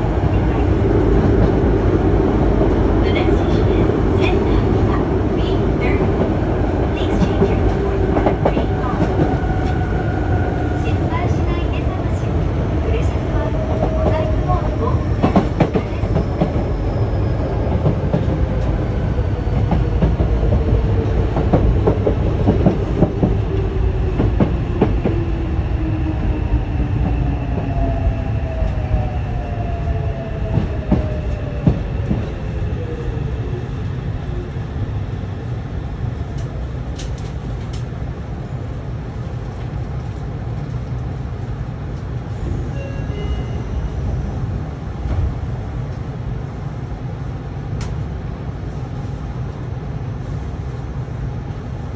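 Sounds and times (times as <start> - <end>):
train rumble: 0.0 - 51.9.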